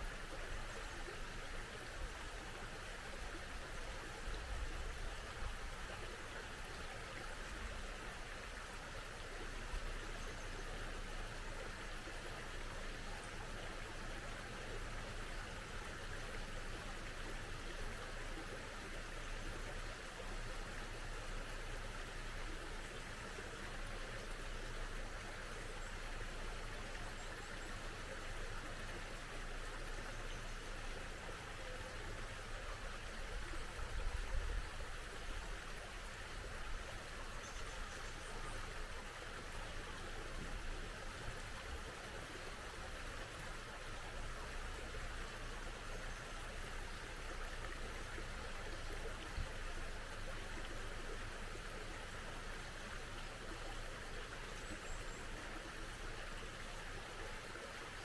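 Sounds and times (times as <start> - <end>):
small stream running: 0.0 - 58.0.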